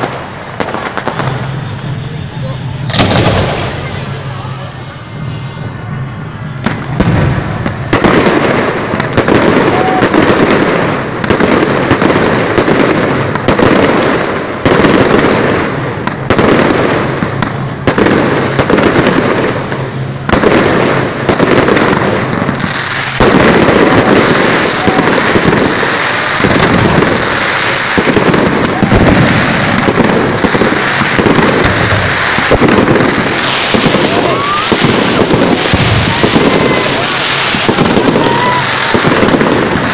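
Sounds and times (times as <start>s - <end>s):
firework shells bursting: 0.0s - 4.3s, 5.2s - 39.9s
fireworks crackling: 0.0s - 39.9s.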